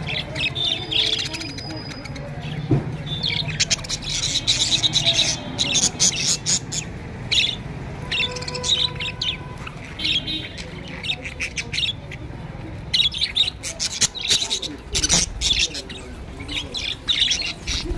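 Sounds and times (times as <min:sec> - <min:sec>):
budgerigars chattering: 0:00.0 - 0:17.9.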